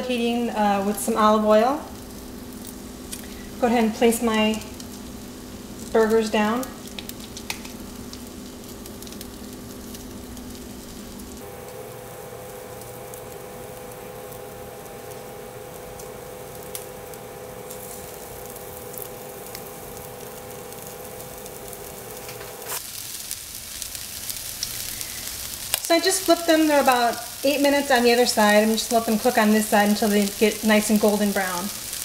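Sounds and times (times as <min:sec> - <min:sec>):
patties sizzling in hot oil: 0:00.0 - 0:32.0.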